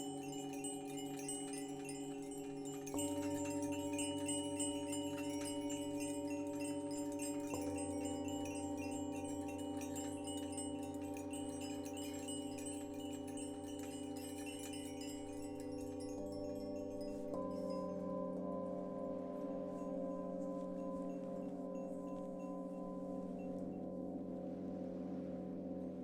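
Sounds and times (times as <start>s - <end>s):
singing bowls ringing: 0.0s - 24.8s
tinkling chimes: 0.0s - 25.8s.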